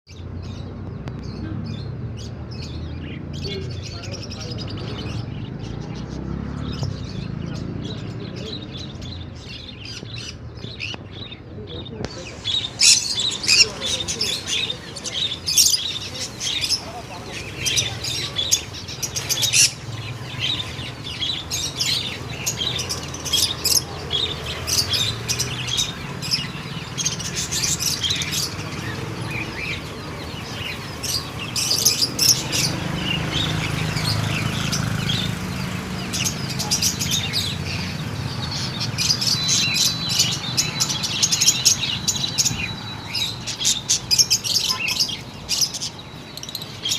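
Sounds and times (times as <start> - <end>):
parrots chirping and squawking: 0.2 - 46.9.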